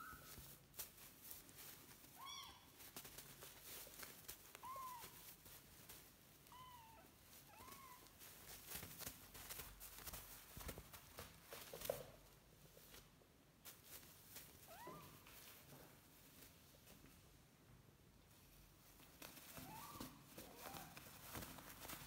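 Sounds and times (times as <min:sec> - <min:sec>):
scratching and rustling: 0:00.0 - 0:17.4, 0:18.2 - 0:22.0.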